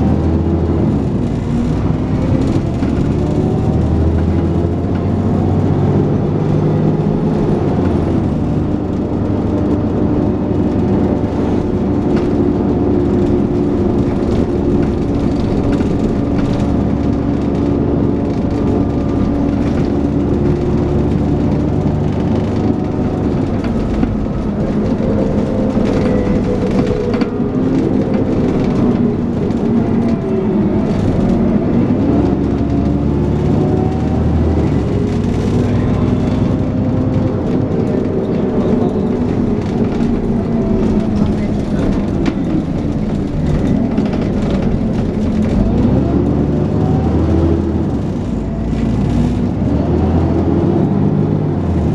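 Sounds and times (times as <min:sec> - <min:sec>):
bus diesel engine whining: 0:00.0 - 0:51.9.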